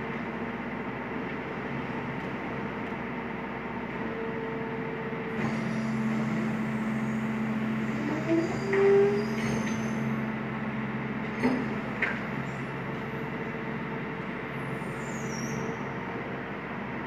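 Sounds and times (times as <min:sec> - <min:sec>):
garbage truck engine running: 0:00.0 - 0:16.1.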